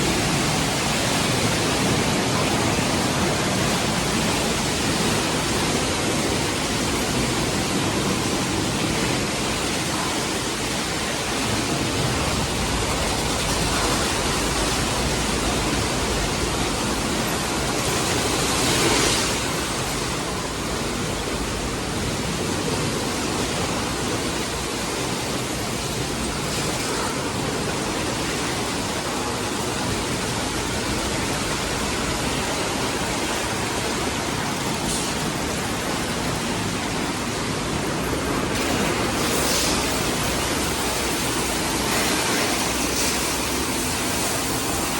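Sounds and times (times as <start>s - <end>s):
car wash water spraying: 0.0s - 44.9s.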